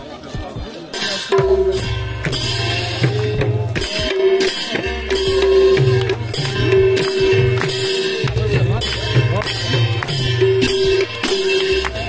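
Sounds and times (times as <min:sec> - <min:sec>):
drums beating a rhythm: 0:00.0 - 0:12.0.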